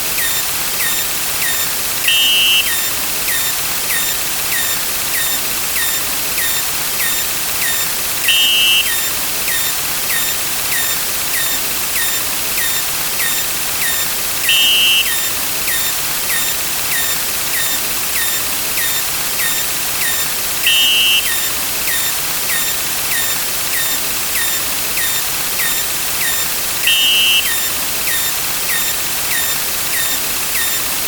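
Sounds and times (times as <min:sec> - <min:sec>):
two-tone electronic beep: 0:00.2 - 0:30.9.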